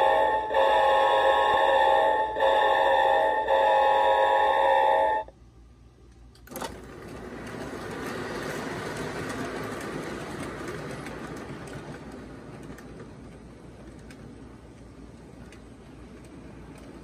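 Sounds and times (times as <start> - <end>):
model train rolling rumble: 0.0 - 5.3, 6.4 - 17.0.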